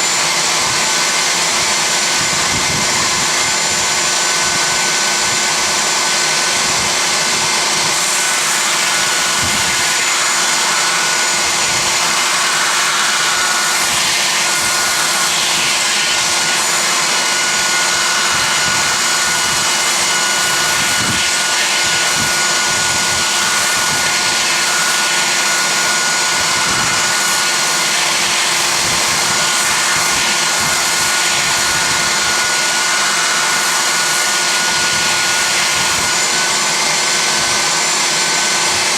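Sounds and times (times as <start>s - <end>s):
belt sander whining: 0.0s - 38.9s
vacuum running: 0.0s - 38.9s.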